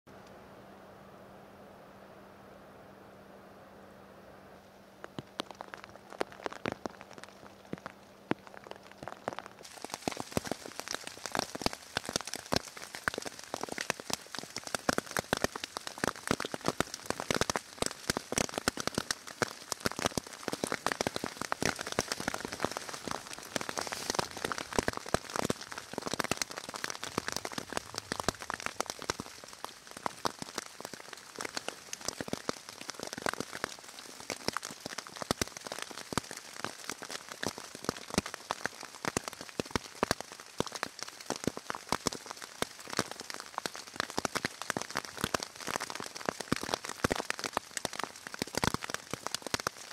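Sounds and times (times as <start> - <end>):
rain falling: 4.4 - 49.9.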